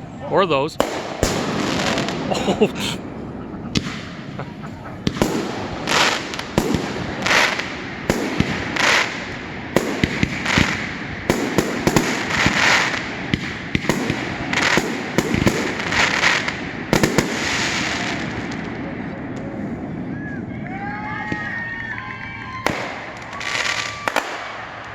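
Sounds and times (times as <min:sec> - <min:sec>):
fireworks hissing and crackling: 0:00.7 - 0:19.7, 0:20.9 - 0:24.9
fireworks bangs: 0:00.7 - 0:24.9.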